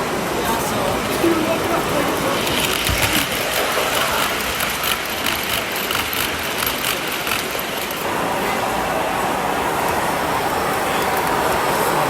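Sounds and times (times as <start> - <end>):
busy hall noise: 0.0 - 12.0
model train rumbling: 0.0 - 12.0
wheels clicking on track: 0.0 - 12.0.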